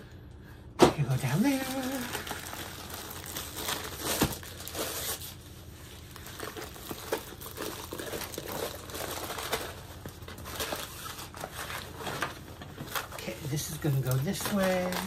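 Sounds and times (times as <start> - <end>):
plastic and paper crinkling: 1.1 - 15.0.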